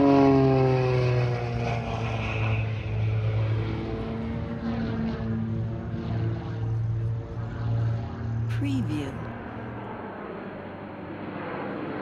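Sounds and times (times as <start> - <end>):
jet engine whine: 0.0 - 8.5, 9.3 - 12.0
aircraft low drone: 0.0 - 12.0.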